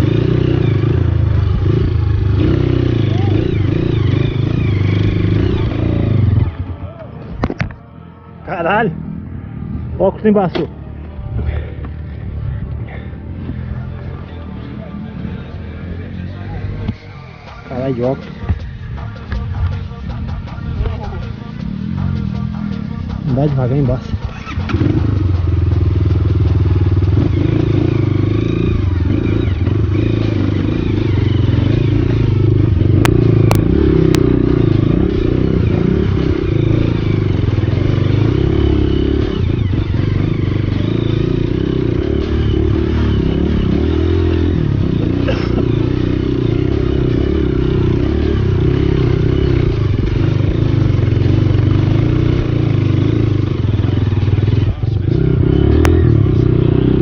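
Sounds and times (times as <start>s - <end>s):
motorcycle engine running: 0.0s - 7.8s, 8.6s - 57.0s.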